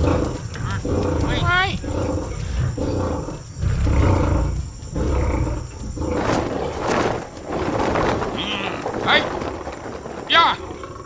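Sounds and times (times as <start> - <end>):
tigers roaring: 0.0 - 11.0.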